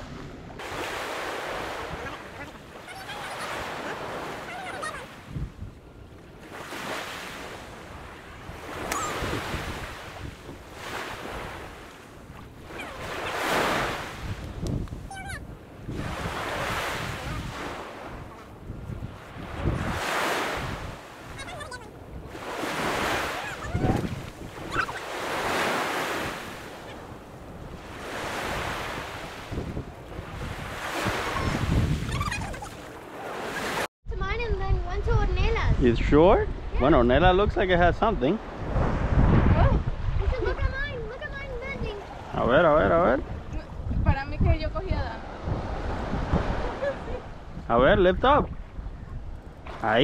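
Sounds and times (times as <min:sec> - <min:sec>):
small waves breaking on beach: 0:00.0 - 0:33.9, 0:36.5 - 0:50.0
wind buffeting microphone: 0:00.0 - 0:50.0.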